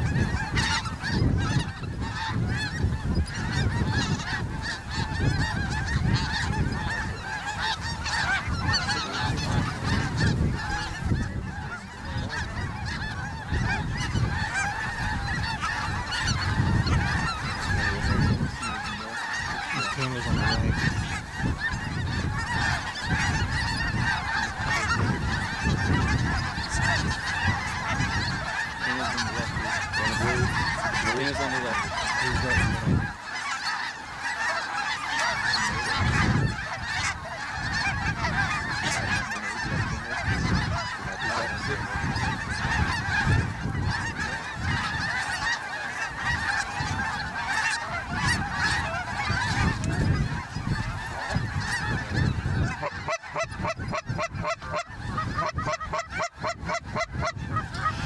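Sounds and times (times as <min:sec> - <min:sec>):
flock of geese calling: 0:00.0 - 0:58.0.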